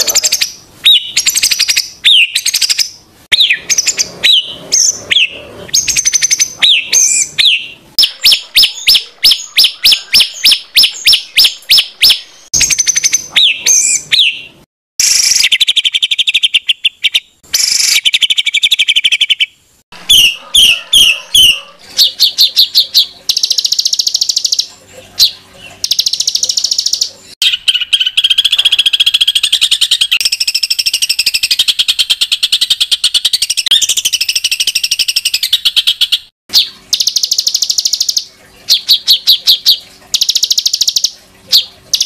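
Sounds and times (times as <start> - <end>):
songbird singing harsh phrases: 0.0 - 42.0.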